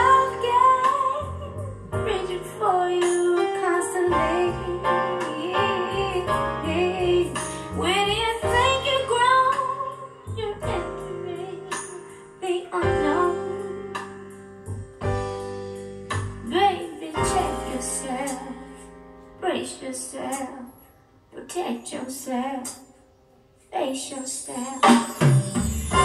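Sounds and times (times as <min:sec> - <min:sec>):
woman singing wordless line: 0:00.0 - 0:13.9, 0:16.4 - 0:18.8, 0:19.4 - 0:22.9, 0:23.7 - 0:25.2
bass: 0:00.0 - 0:21.6, 0:24.8 - 0:26.0
piano: 0:00.0 - 0:26.0.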